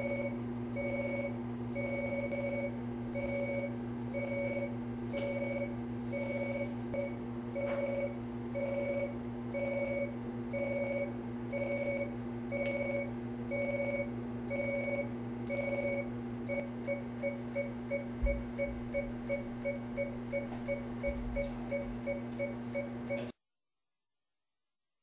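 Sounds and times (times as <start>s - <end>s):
steady electrical hum: 0.0s - 23.3s.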